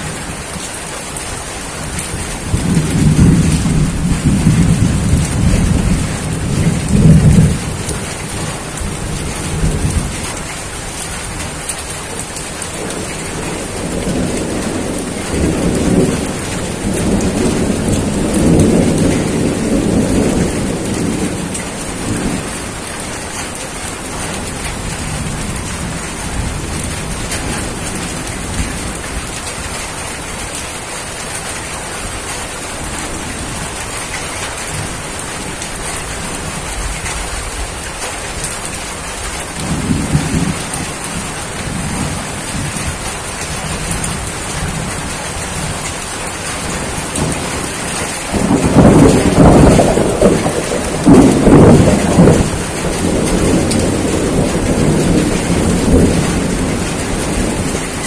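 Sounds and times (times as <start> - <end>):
thunder rumbling: 0.0 - 29.8, 32.0 - 58.0
heavy rain falling: 0.0 - 58.0.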